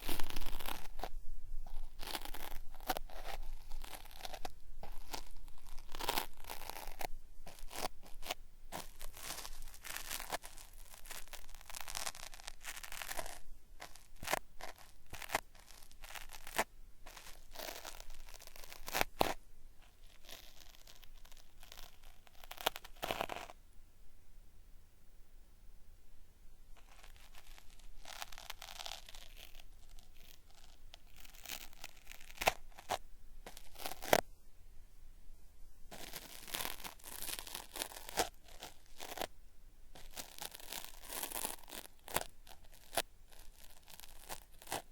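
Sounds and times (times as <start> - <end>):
cotton swab scraping microphone: 0.0 - 23.6, 26.8 - 34.2, 35.9 - 39.3, 39.9 - 44.9.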